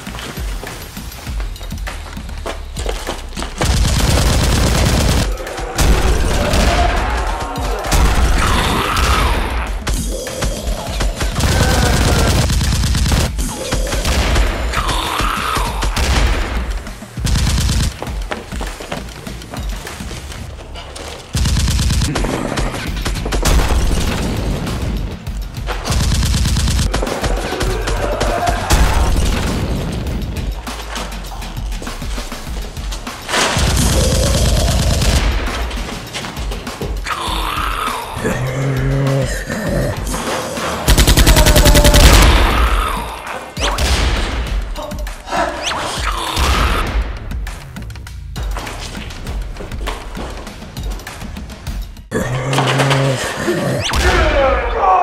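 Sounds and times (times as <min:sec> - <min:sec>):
dramatic background music: 0:00.0 - 0:55.0.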